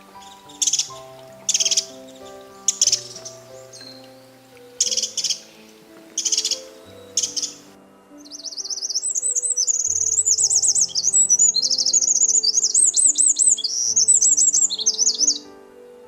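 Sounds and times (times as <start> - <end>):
songbird trilling and whistling: 0.0 - 15.5
soft background music: 0.0 - 16.0.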